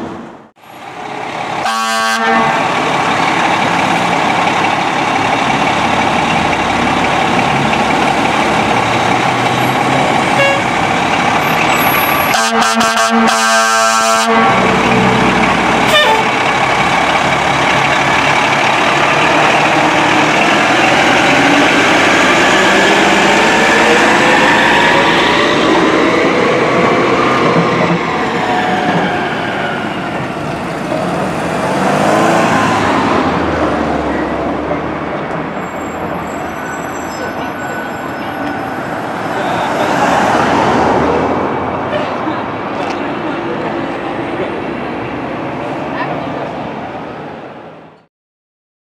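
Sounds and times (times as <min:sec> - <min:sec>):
fire truck engine: 0:00.0 - 0:48.1.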